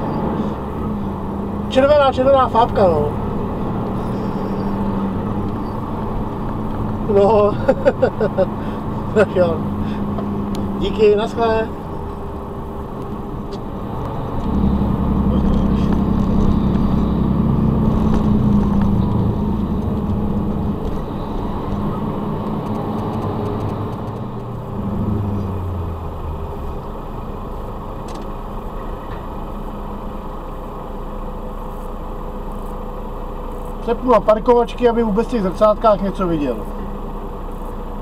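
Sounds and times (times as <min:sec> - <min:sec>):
diesel truck engine drone: 0:00.0 - 0:38.0
road noise: 0:00.0 - 0:38.0.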